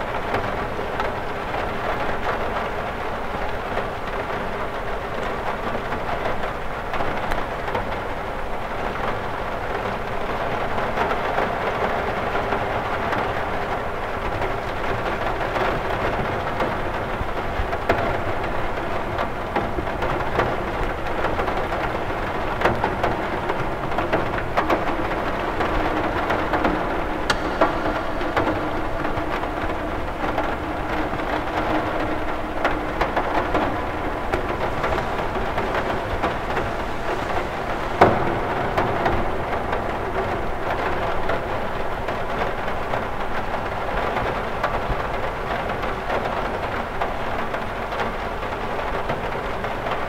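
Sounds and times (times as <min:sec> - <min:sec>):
rain on a window: 0:00.0 - 0:50.0.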